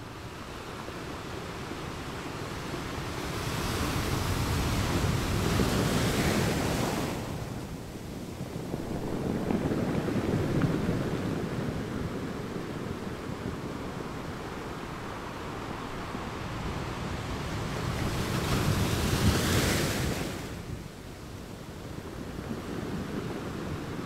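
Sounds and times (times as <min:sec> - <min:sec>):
rushing sea water: 0:00.0 - 0:24.0.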